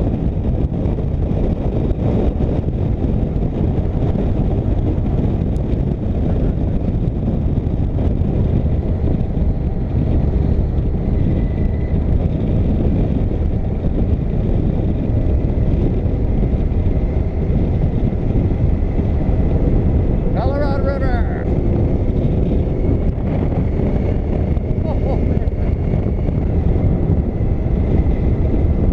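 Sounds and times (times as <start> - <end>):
motorcycle engine drone: 0.0 - 28.9
wind rush on microphone: 0.0 - 28.9.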